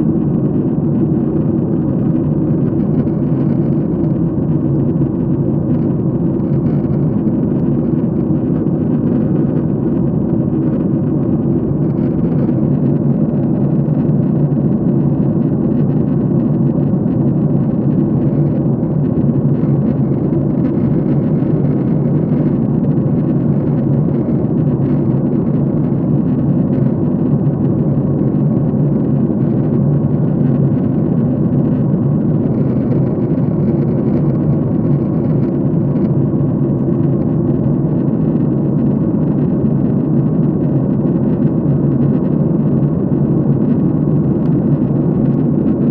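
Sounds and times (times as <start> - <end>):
airliner cabin engine rush: 0.0 - 45.9.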